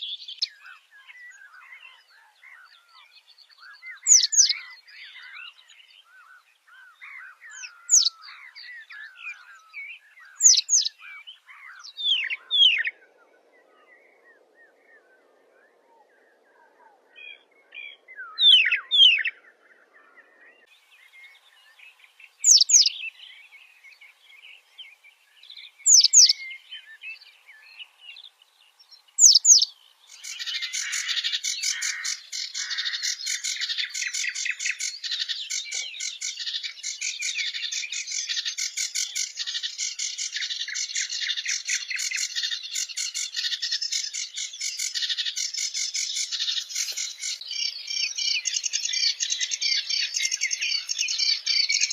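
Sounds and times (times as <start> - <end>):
chorus of birds chirping: 0.0 - 51.9.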